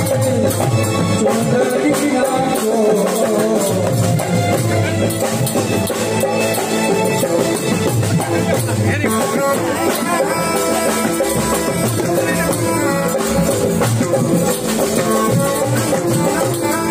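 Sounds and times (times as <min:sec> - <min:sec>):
drums: 0:00.0 - 0:16.9
keyboard melody: 0:00.0 - 0:16.9
rattling shaker percussion: 0:00.0 - 0:16.9.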